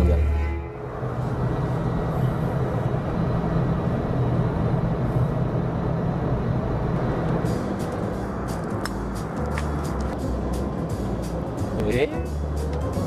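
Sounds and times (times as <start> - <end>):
jet cabin rumble and rush: 0.9 - 13.0.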